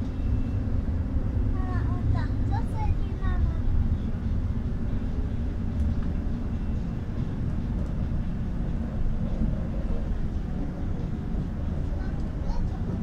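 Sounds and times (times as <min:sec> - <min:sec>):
bus interior low rumble: 0:00.0 - 0:13.0.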